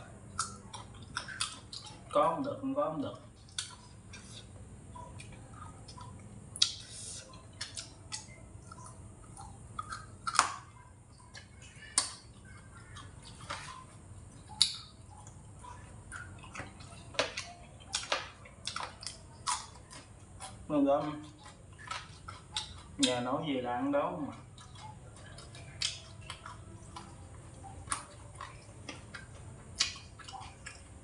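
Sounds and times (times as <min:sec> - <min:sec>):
chewing: 0:00.0 - 0:31.0
low steady hum: 0:00.0 - 0:31.0.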